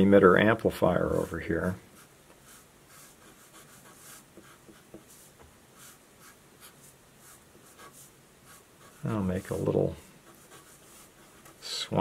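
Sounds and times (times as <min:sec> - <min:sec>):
marker scratching on paper: 0:02.0 - 0:11.9.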